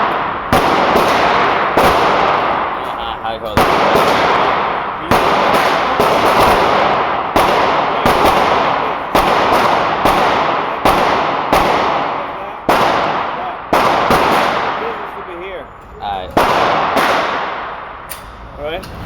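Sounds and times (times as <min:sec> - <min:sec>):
pistol shots with echo: 0:00.0 - 0:18.5.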